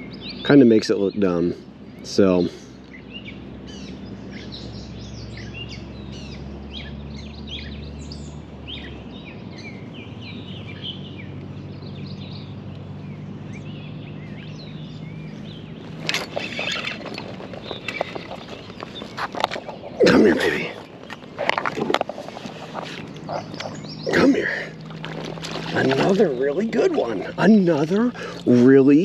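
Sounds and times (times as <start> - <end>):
low steady hum: 0.0 - 29.0
songbirds chirping: 0.0 - 29.0.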